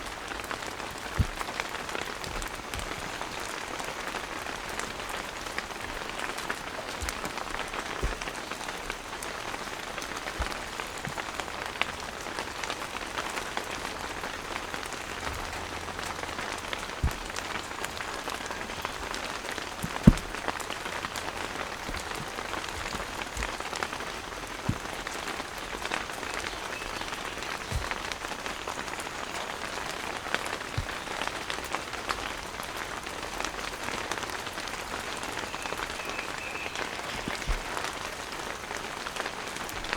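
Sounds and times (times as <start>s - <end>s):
heavy rain on a tent awning: 0.0s - 39.9s.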